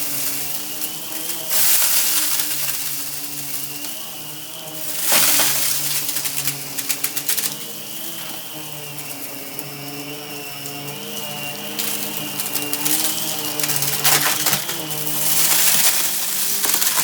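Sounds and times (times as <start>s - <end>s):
debris rattling through hose: 0.0s - 17.0s
vacuum motor whine: 0.0s - 17.0s.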